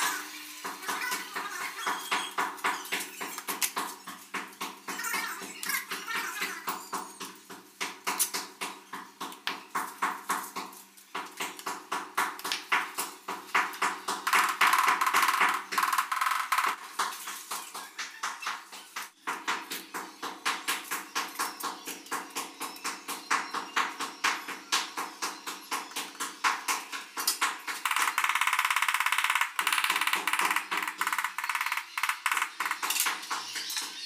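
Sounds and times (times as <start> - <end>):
rubber mallet tapping ceramic tiles: 1.8 - 33.7.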